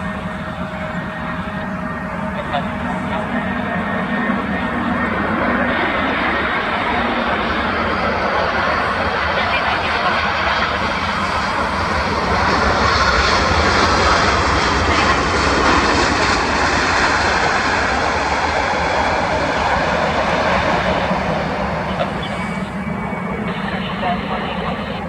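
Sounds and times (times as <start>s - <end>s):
jet engines of landing airliner: 0.0s - 25.0s.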